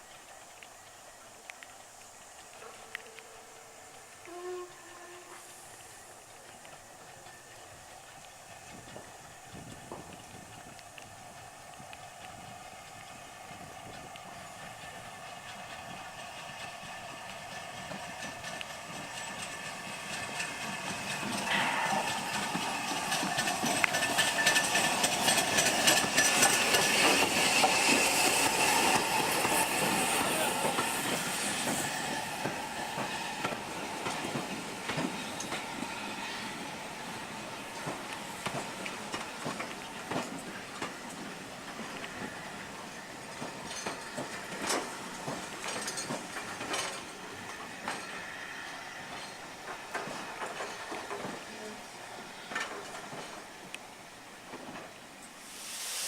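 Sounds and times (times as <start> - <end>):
rail and wheel noise: 0.0 - 56.0
steam hissing: 0.0 - 56.0
train rolling rumble: 0.0 - 56.0.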